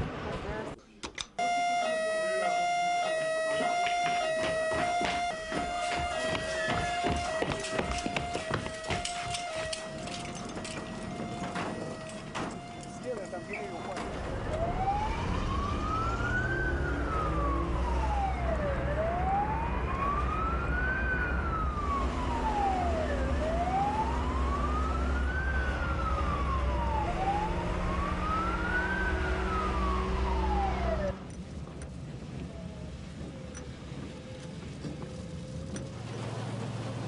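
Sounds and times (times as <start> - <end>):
truck engine rumble: 0.0 - 37.0
fire engine siren wailing: 1.4 - 31.2, 32.0 - 37.0.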